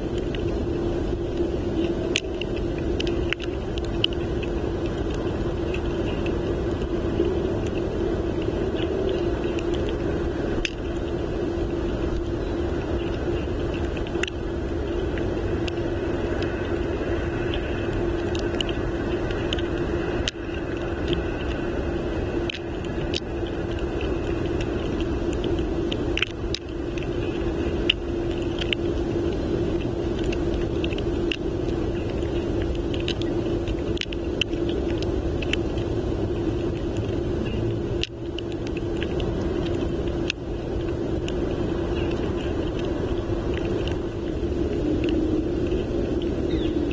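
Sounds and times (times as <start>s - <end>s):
constant hum: 0.0s - 46.9s
wind rumble: 0.0s - 46.9s
small ticks and taps: 0.2s - 0.6s, 1.3s - 11.2s, 11.9s - 21.6s, 22.4s - 46.9s.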